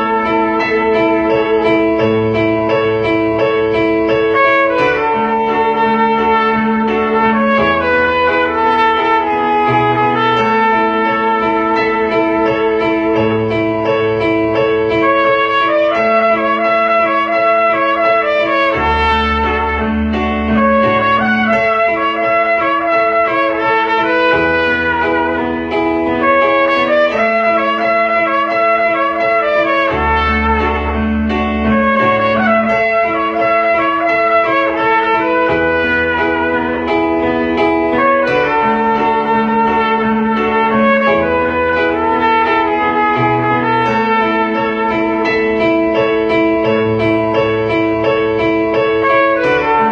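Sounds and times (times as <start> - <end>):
instrumental backing: 0.0 - 49.9
trumpet melody: 0.0 - 49.9.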